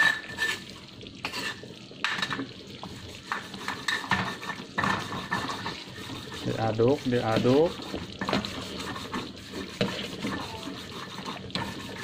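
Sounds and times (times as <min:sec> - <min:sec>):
spatula scraping metal wok: 0:00.0 - 0:12.0.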